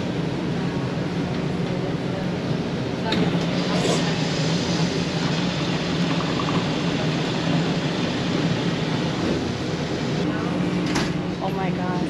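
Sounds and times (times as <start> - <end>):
coffee machine humming and hissing: 0.0 - 12.0.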